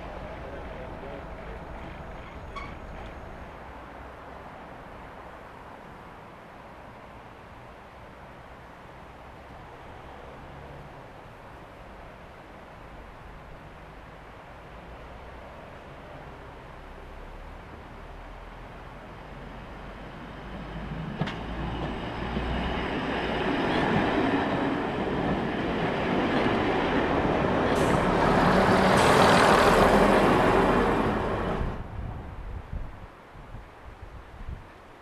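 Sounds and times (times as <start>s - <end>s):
diesel train passing: 0.0s - 6.4s, 7.1s - 32.9s.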